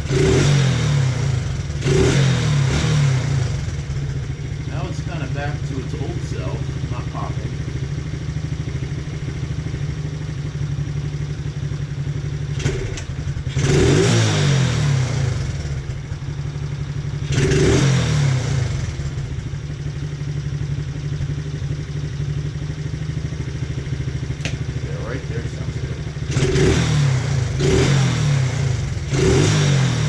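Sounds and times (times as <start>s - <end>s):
small engine idling and revving: 0.0s - 30.0s.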